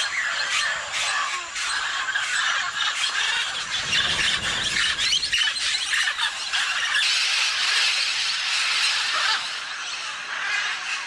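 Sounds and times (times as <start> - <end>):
flock of parrots squawking: 0.0 - 11.0.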